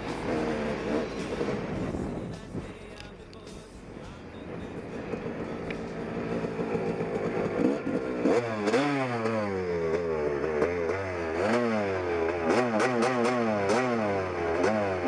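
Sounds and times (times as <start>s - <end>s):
dirt bike engine revving: 0.0s - 2.6s, 4.4s - 15.0s.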